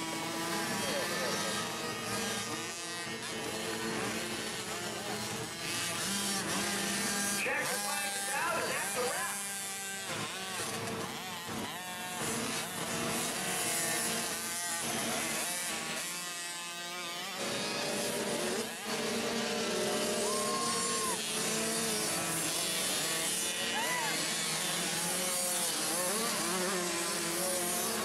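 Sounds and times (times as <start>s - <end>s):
motocross bikes revving past: 0.0s - 28.0s.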